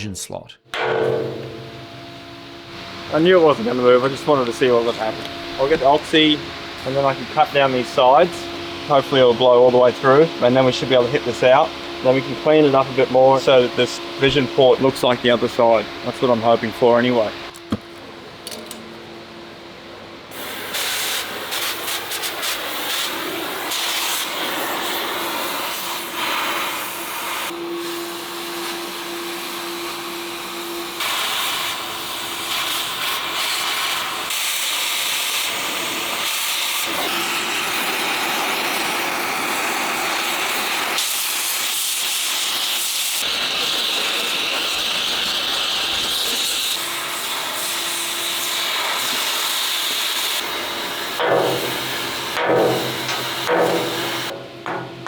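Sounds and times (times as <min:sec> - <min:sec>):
cutting torch hissing: 0:01.6 - 0:17.3, 0:20.3 - 0:54.3.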